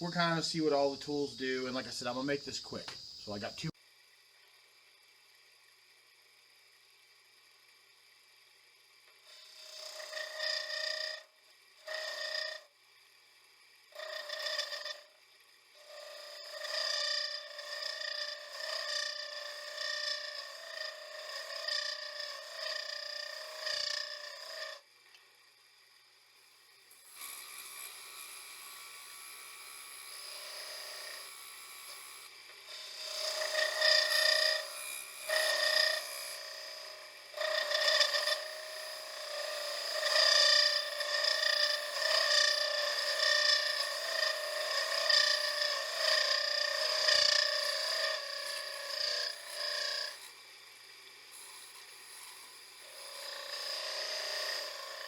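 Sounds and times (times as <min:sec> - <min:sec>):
tool scraping spinning wood: 0:00.0 - 0:55.0.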